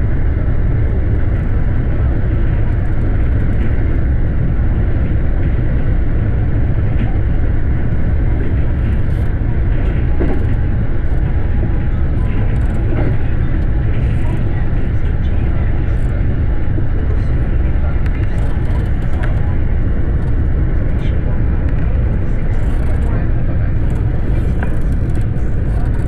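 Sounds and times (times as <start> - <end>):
electric train running: 0.0 - 26.0.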